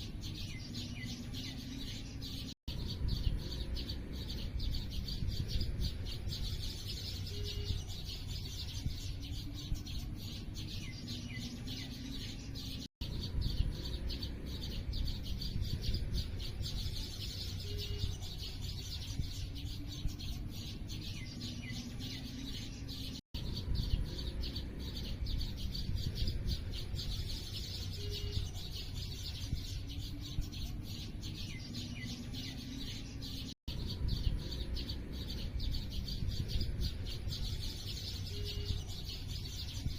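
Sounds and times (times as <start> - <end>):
low background rumble: 0.0 - 39.9
small birds chirping: 0.0 - 39.9.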